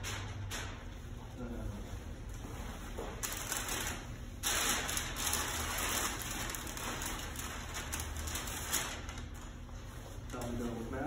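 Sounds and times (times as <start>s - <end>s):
masking paper crinkling: 2.1s - 11.0s.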